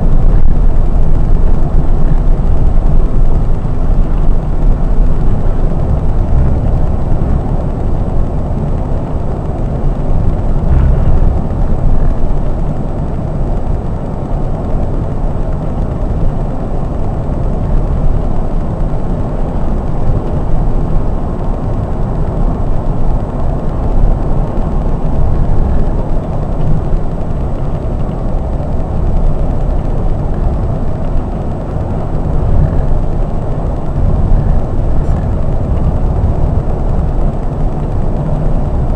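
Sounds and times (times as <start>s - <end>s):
diesel engine rumble: 0.0s - 38.9s
tyre and wind noise: 0.0s - 38.9s.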